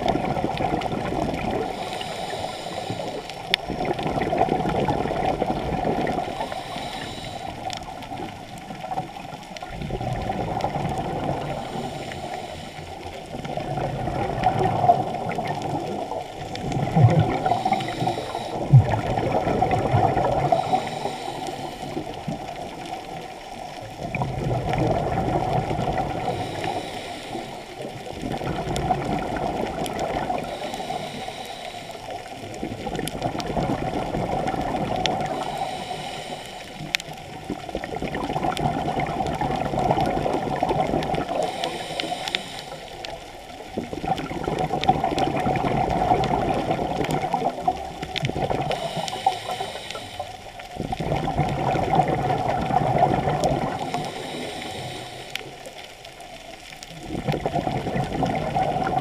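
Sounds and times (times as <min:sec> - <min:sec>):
exhaled air bubbling: 0:00.0 - 0:59.0
regulator breathing underwater: 0:01.4 - 0:04.2, 0:05.2 - 0:09.0, 0:10.1 - 0:23.2, 0:24.6 - 0:37.3, 0:38.9 - 0:56.0.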